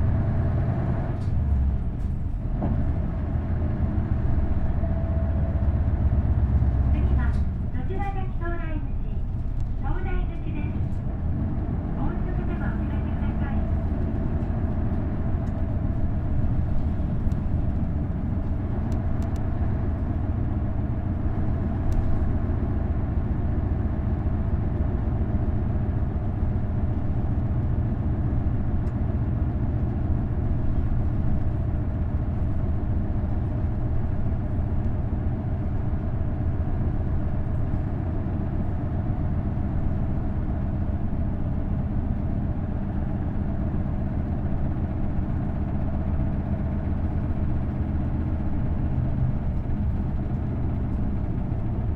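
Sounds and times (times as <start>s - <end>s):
bus diesel engine droning: 0.0s - 51.9s
road noise: 0.0s - 51.9s.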